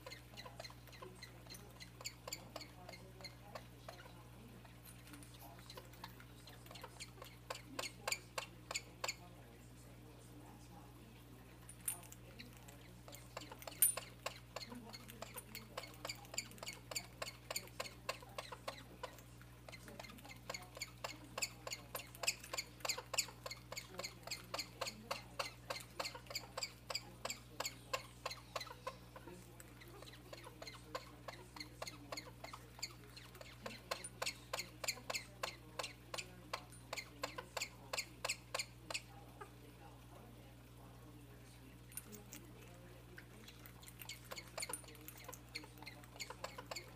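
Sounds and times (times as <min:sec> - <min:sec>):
small pet squeaking: 0:00.0 - 0:04.9, 0:05.6 - 0:09.3, 0:12.4 - 0:39.6, 0:43.8 - 0:46.9.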